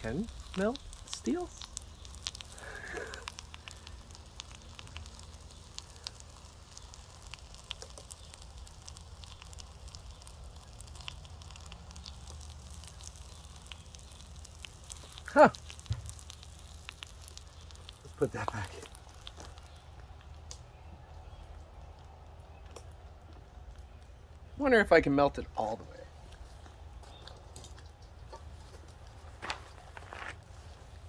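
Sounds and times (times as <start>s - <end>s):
furnace burner rumble: 0.0s - 27.7s
crackling in furnace: 0.0s - 31.0s.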